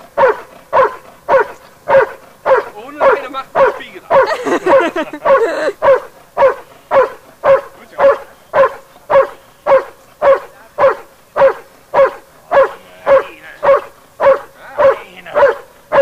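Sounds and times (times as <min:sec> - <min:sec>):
dog barking rhythmically: 0:00.1 - 0:16.0.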